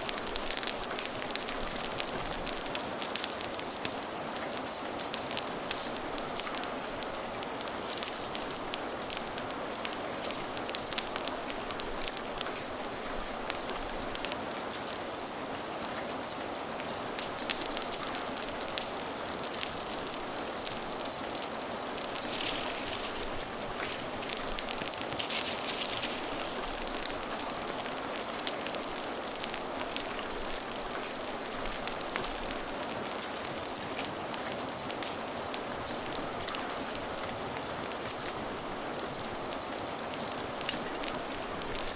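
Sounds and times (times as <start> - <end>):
fire crackling: 0.0 - 15.0, 15.6 - 41.9
steady rain: 0.0 - 41.9.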